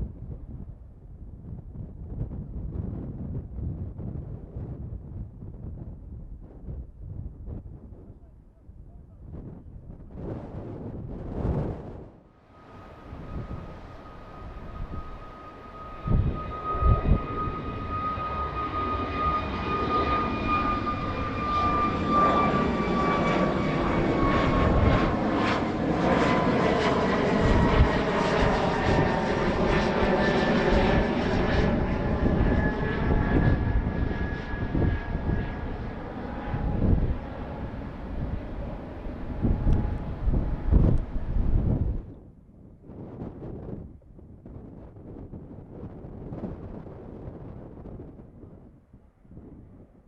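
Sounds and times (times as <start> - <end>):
jet airliner flying past: 0.0 - 50.0
wind buffeting microphone: 0.0 - 50.0.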